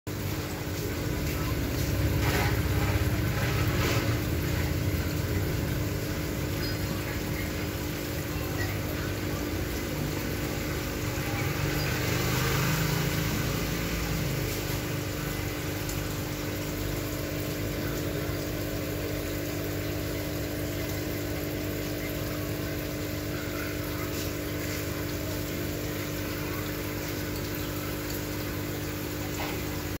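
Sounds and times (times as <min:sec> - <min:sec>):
aquarium pump humming: 0:00.1 - 0:30.0
moving water: 0:00.1 - 0:30.0.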